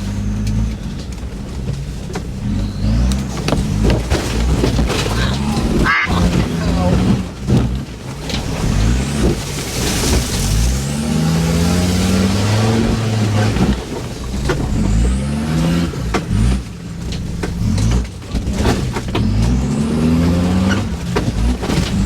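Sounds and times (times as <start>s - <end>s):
knocks and clunks: 0.0s - 22.0s
off-road engine revving hard: 0.0s - 22.0s.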